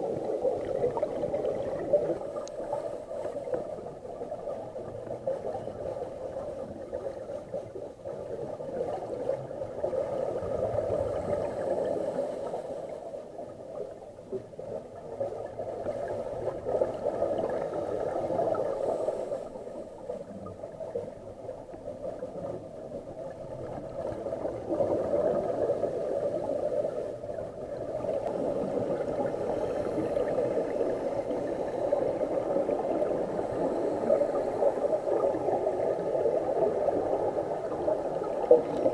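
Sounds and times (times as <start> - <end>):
muffled underwater noise: 0.0 - 38.9.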